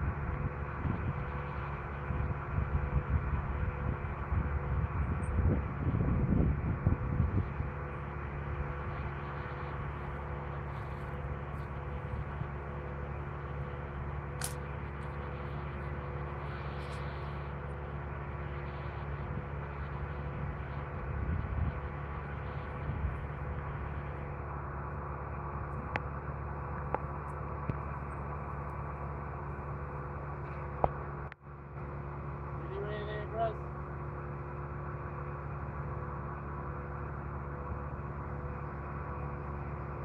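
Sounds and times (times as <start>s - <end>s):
engine droning steadily: 0.0s - 40.0s.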